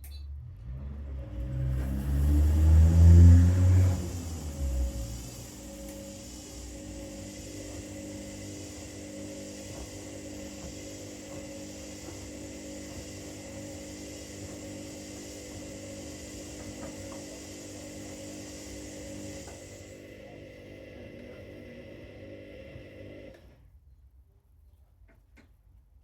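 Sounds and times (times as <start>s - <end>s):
washing machine motor hum: 0.6s - 23.6s.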